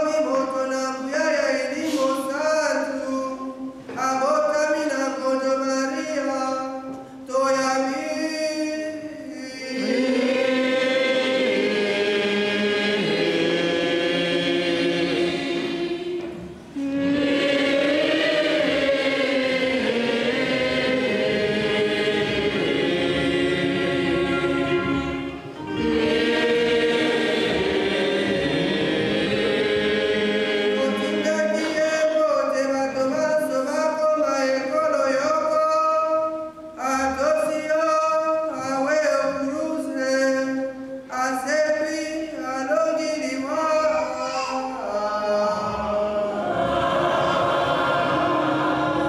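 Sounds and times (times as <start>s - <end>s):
choir singing a chant: 4.9s - 49.0s.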